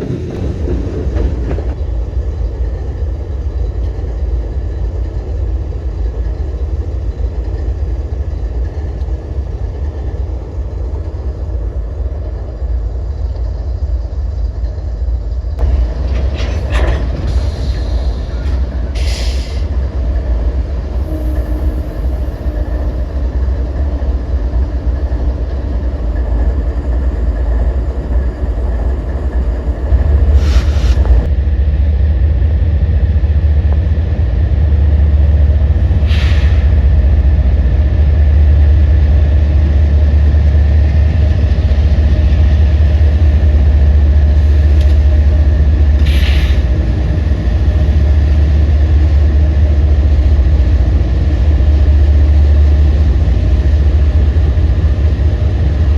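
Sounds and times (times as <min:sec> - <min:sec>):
diesel locomotive rumble: 0:00.0 - 0:55.9.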